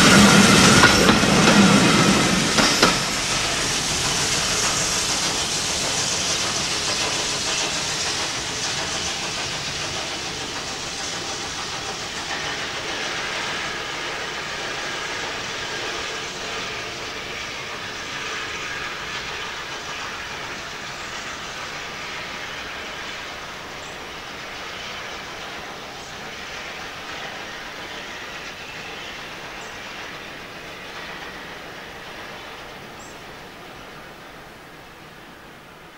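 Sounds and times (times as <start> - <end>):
steam hiss: 0.0 - 35.9
train wheels on track: 0.0 - 35.9.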